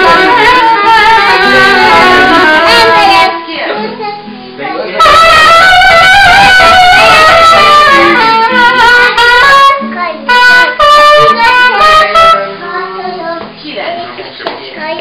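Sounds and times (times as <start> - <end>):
soprano saxophone melody: 0.0 - 13.2
guitar accompaniment: 0.0 - 15.0.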